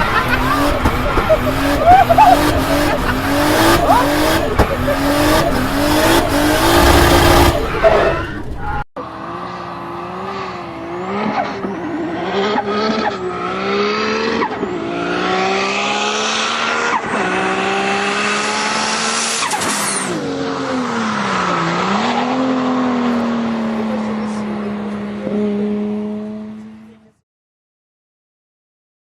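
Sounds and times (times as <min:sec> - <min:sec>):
car engine accelerating through gears: 0:00.0 - 0:27.2.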